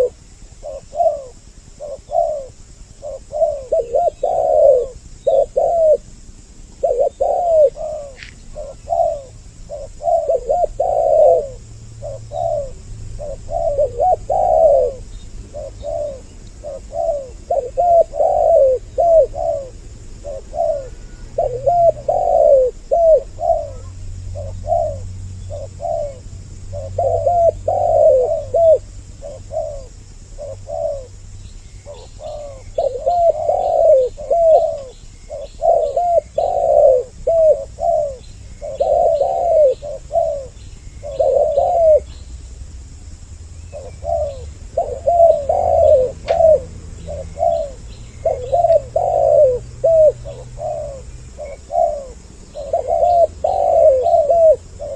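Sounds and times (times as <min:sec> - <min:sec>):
doves cooing: 0:00.0 - 0:42.3, 0:43.5 - 0:54.9.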